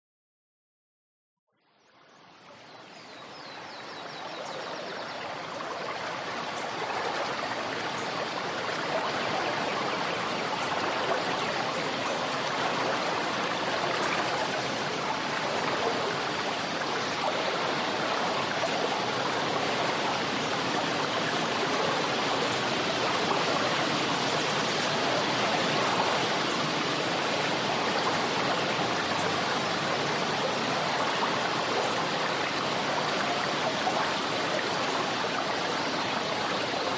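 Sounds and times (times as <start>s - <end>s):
river water rushing: 3.2s - 36.9s.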